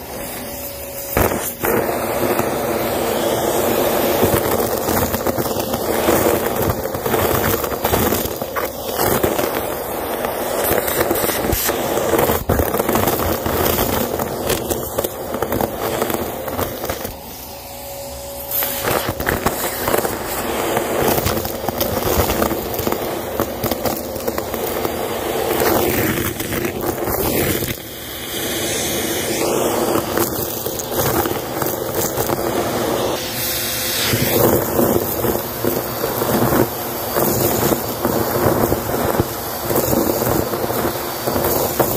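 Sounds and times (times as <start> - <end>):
debris crackling up vacuum wand: 0.0 - 41.9
vacuum cleaner running: 0.0 - 41.9.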